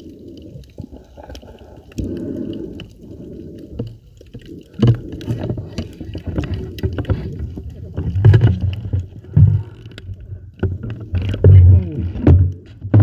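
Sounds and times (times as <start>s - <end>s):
muffled underwater gurgling: 0.0s - 13.0s.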